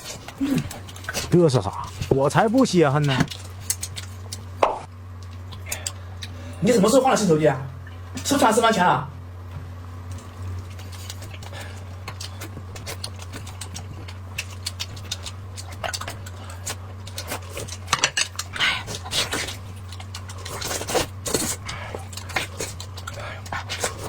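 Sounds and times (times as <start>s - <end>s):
steady low hum: 0.0s - 24.0s
chewing clicks and smacks: 0.2s - 6.4s, 10.1s - 24.0s.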